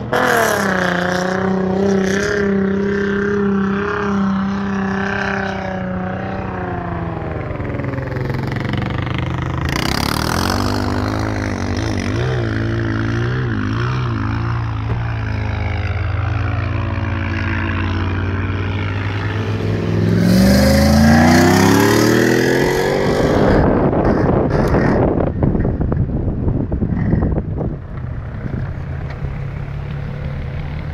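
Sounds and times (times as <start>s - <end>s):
vehicle engine revving: 0.0s - 25.9s.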